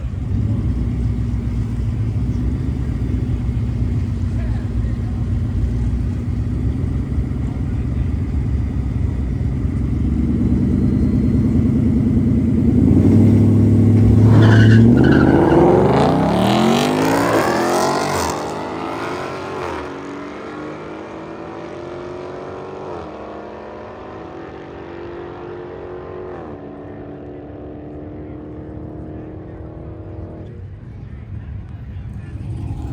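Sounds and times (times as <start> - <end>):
drag car engine accelerating: 0.0 - 30.7, 31.9 - 32.9.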